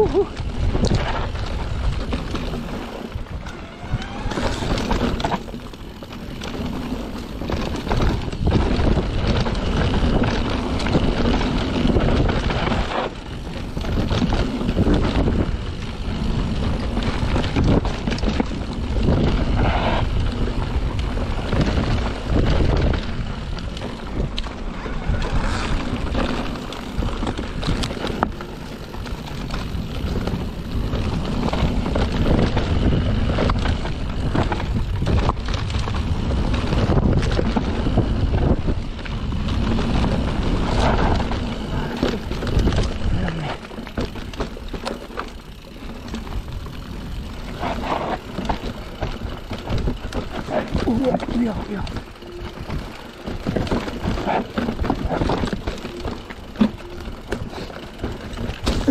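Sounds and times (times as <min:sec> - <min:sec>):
bike rattling and knocking: 0:00.0 - 0:58.9
tyres rushing on dirt: 0:00.0 - 0:58.9
wind buffeting microphone: 0:00.0 - 0:58.9.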